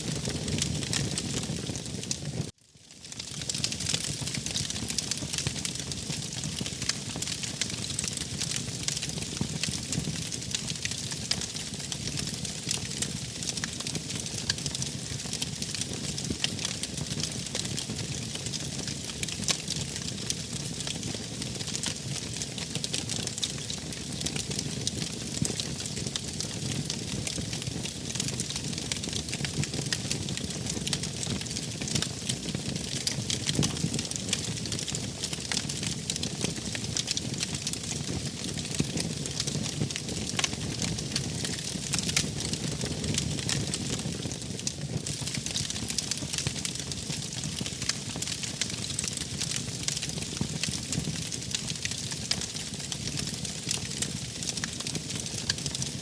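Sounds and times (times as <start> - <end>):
low rumble of flames: 0.0 - 2.5, 3.3 - 55.8
wood fire crackling and popping: 0.0 - 56.0.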